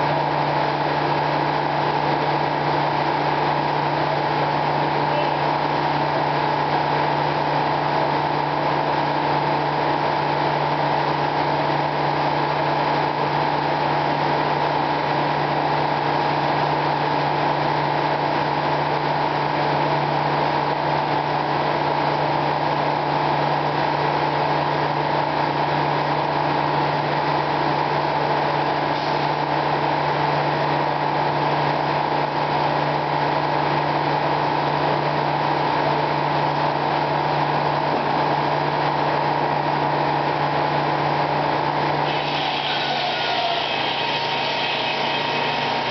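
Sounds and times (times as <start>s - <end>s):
sawmill machinery hum: 0.0s - 45.9s.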